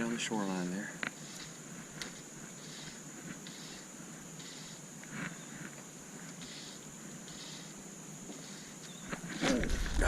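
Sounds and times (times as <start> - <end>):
high-pitched insect buzz: 0.0 - 10.0
soft rustles of hiss: 0.0 - 10.0.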